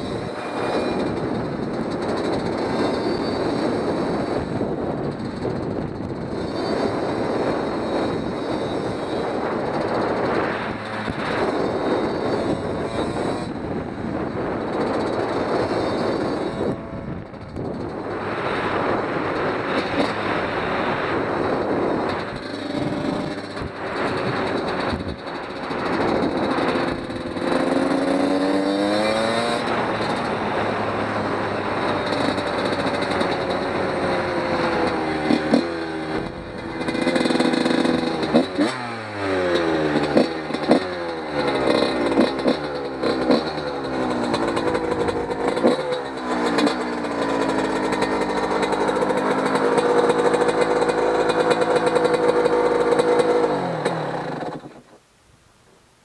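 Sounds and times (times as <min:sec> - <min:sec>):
two-stroke motorcycle engine: 0:00.0 - 0:54.9.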